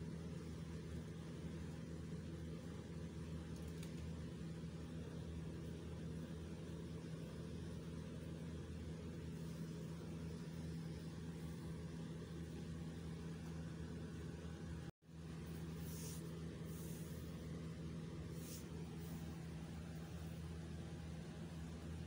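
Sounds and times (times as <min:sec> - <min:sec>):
low hum with faint hiss: 0:00.0 - 0:22.0.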